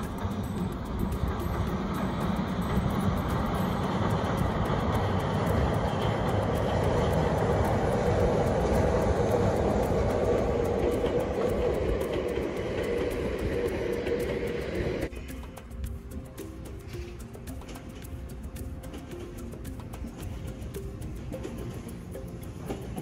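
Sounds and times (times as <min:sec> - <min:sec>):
steady droning tone: 0:00.0 - 0:23.0
train rumbling across steel bridge: 0:00.0 - 0:23.0.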